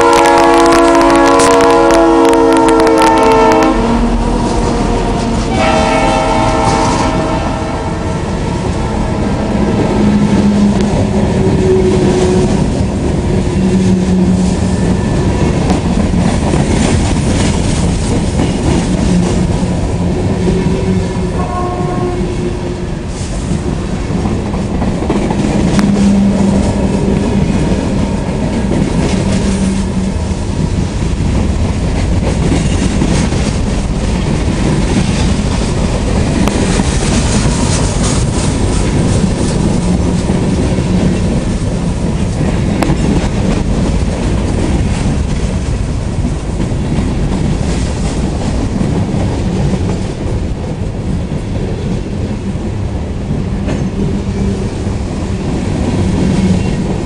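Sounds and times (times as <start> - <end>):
train wheels clattering on rails: 8.2 - 21.2, 22.9 - 57.0.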